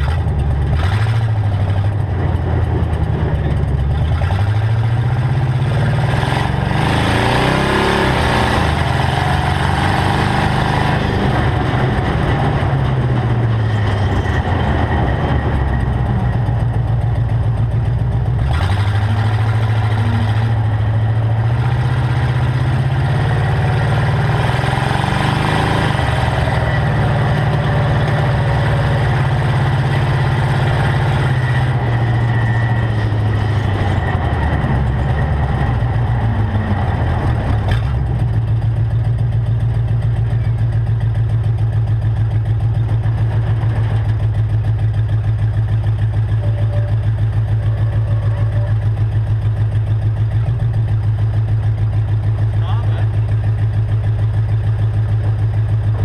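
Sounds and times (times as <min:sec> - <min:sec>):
hot rod engine driving: 0:00.0 - 0:56.0.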